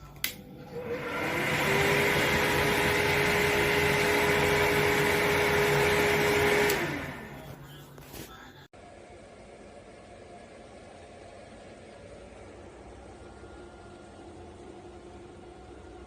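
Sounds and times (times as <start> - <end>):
fan motor hum: 0.0 - 16.0.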